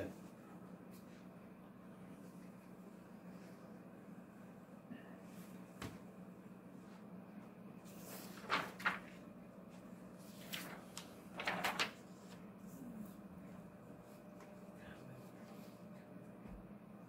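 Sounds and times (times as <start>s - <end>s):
projector hum: 0.0s - 17.0s.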